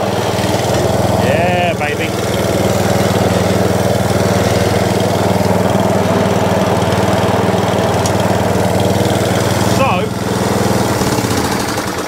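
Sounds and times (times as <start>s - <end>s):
mower petrol engine running: 0.0s - 12.0s.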